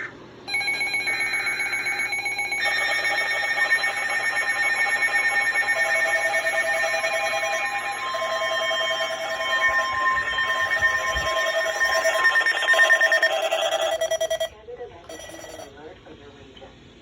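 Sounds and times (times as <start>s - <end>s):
pulsing electronic alert tones: 0.5s - 14.5s.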